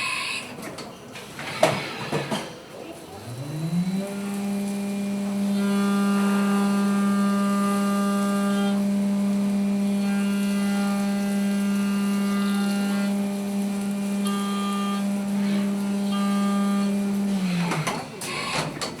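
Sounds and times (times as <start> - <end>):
milling machine motor whine: 1.4 - 19.0.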